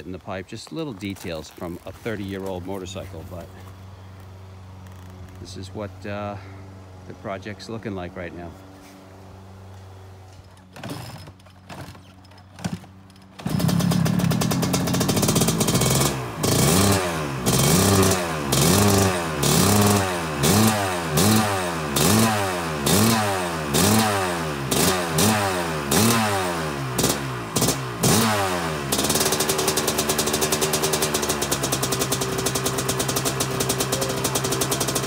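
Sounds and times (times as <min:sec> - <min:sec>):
two-stroke engine revving: 0:00.0 - 0:35.0.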